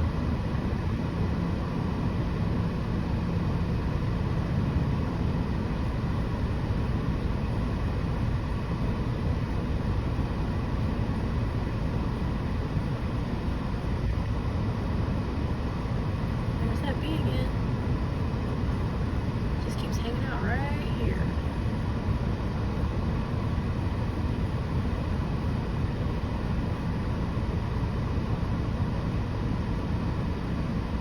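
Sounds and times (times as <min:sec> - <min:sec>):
faint hum: 0:00.0 - 0:31.0
vehicle noise rumble and hiss: 0:00.0 - 0:31.0.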